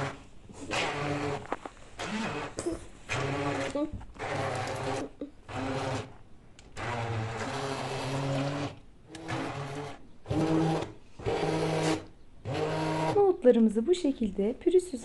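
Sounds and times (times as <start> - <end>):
immersion blender whizzing: 0.0 - 13.3.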